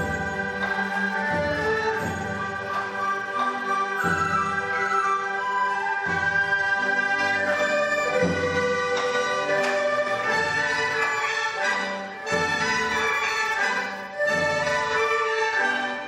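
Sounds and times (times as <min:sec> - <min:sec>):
bowed cellos and double bass: 0:00.0 - 0:16.0
flutes playing: 0:00.0 - 0:16.0
plucked string instruments: 0:00.0 - 0:16.0.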